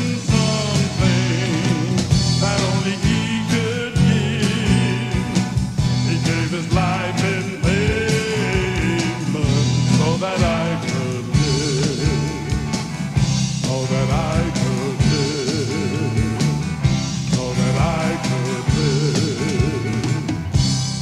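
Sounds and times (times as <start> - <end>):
band playing country gospel song: 0.0 - 21.0.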